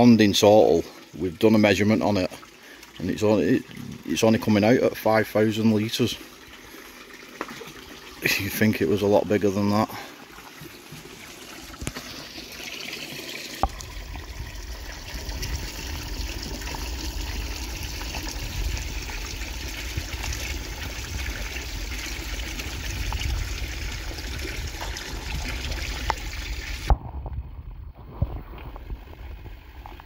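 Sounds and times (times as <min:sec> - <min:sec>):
water rumbling against microphone: 0:00.0 - 0:11.9, 0:13.6 - 0:30.0
fountain water trickling: 0:00.0 - 0:26.9.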